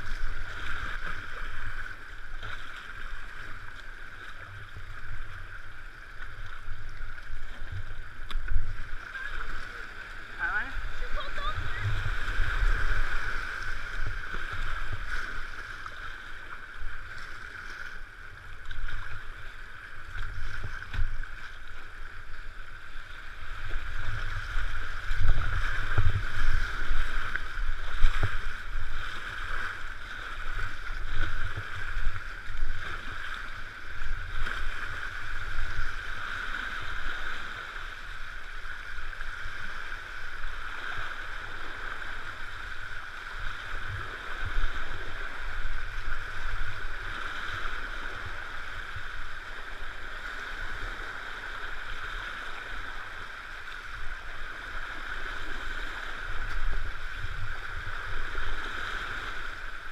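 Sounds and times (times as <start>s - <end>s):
river water rushing: 0.0s - 59.9s
water splashes: 0.0s - 59.9s.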